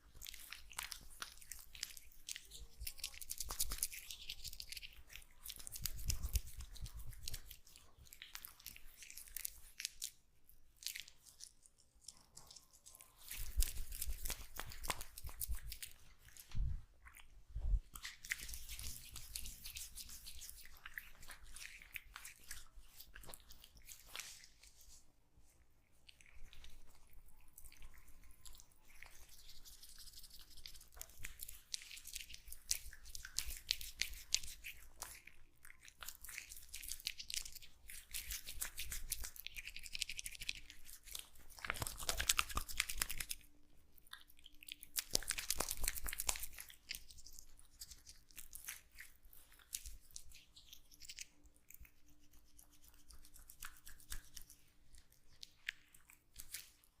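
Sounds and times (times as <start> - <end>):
hands rubbing a face: 0.2 - 10.2, 10.8 - 27.6, 29.0 - 35.2, 36.0 - 43.4, 51.8 - 57.0.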